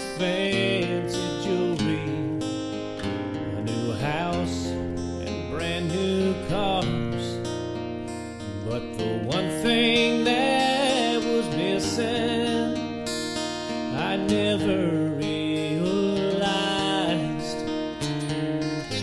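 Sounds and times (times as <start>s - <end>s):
man singing: 0.0s - 7.6s, 8.5s - 19.0s
acoustic guitar strummed and picked: 0.0s - 19.0s.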